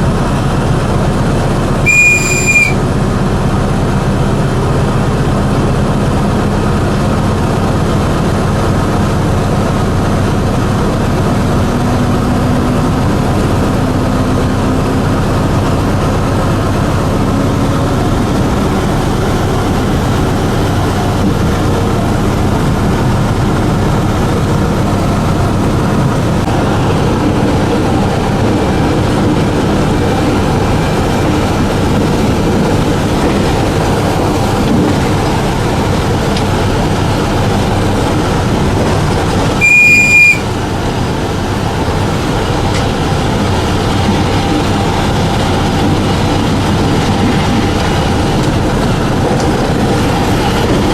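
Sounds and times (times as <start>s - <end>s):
locomotive engine hum: 0.0s - 50.9s
wheels rumbling on rails: 0.0s - 50.9s.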